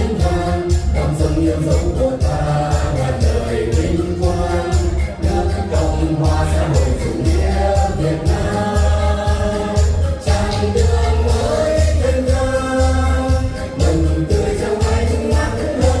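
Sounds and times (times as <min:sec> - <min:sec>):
music with heavy bass beat: 0:00.0 - 0:16.0
vocal group singing: 0:00.0 - 0:16.0.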